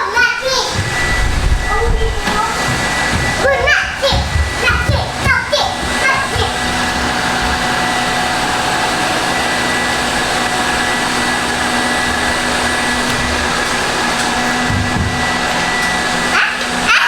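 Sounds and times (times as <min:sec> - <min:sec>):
robot vacuum cleaner running: 0:00.0 - 0:17.0.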